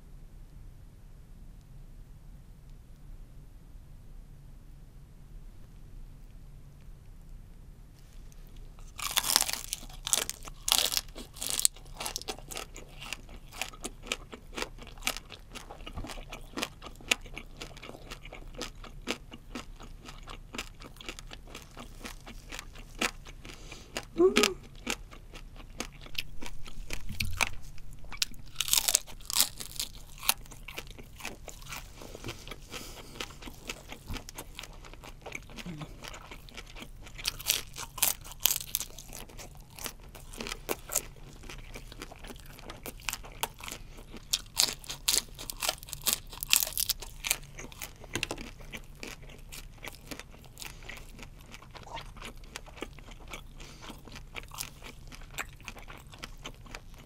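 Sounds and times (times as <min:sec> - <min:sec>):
crunchy chewing of fried shrimp: 0:08.0 - 0:57.0.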